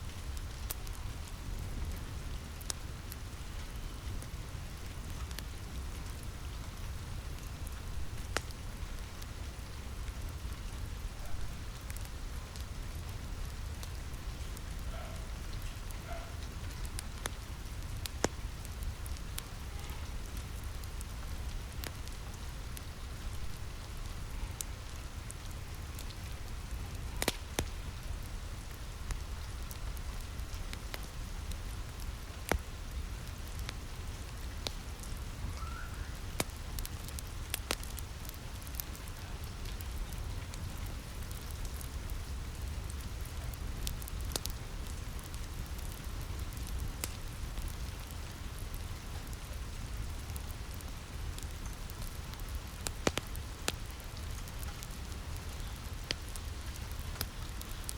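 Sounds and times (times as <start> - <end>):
rain on a roof: 0.0 - 57.9
wood fire crackling: 0.0 - 57.9.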